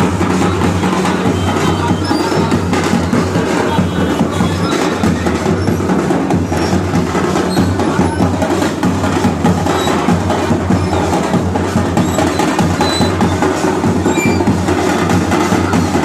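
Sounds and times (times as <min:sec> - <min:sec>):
drums playing fast rhythm: 0:00.0 - 0:16.0.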